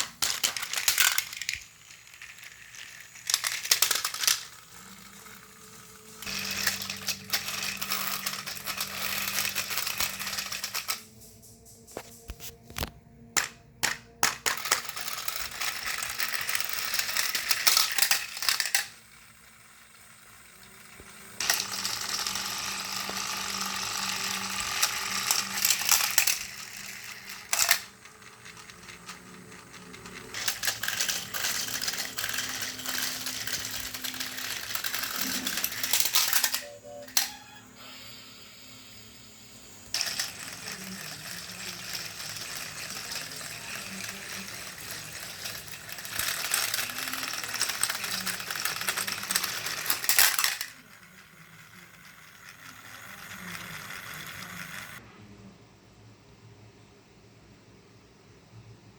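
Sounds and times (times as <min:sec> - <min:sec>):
plastic parts rattling: 0:00.0 - 0:11.0, 0:12.0 - 0:37.5, 0:39.9 - 0:51.0
toy motors whirring: 0:00.0 - 0:55.0.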